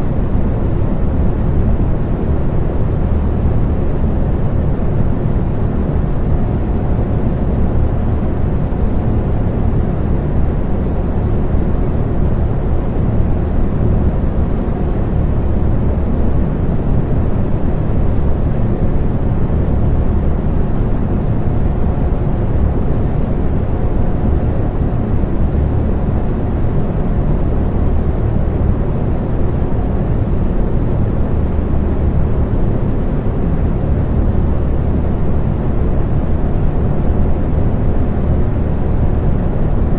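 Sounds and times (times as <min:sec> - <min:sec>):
electric fan running: 0:00.0 - 0:39.9
faint steady hum: 0:00.0 - 0:39.9.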